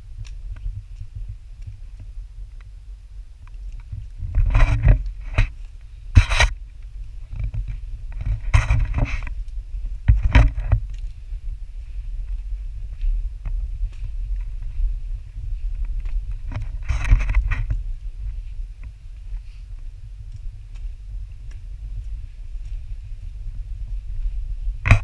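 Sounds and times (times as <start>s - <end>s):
low wind rumble on microphone: 0.0s - 25.0s
footstep scuffs on rocky ground: 3.6s - 25.0s.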